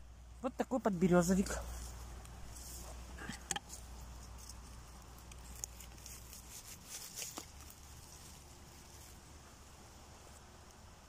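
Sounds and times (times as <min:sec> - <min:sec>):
rustling of leaf litter: 0:00.5 - 0:11.0.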